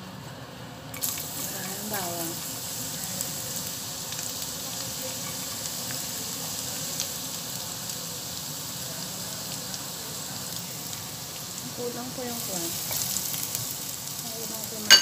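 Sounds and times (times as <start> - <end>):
garlic sizzling in hot oil: 0.9 - 15.0.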